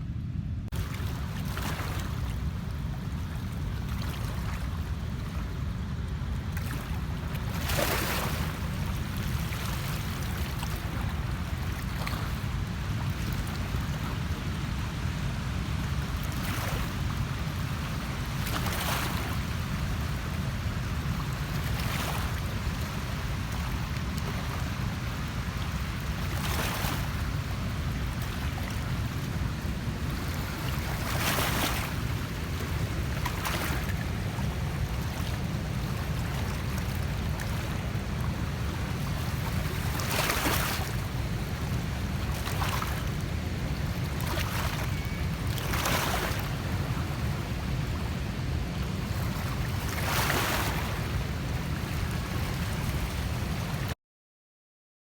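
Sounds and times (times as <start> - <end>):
wind rumble on microphone: 0.0 - 54.0
rush of water: 0.7 - 54.0.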